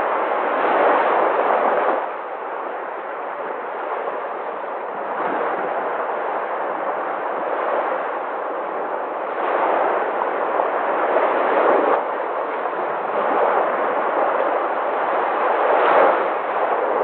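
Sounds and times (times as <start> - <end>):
surf rushing: 0.0 - 17.0
waves crashing on shore: 0.0 - 17.0.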